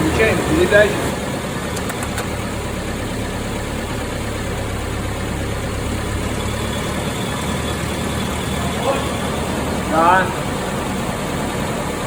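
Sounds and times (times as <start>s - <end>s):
gearbox drone: 1.7s - 11.9s.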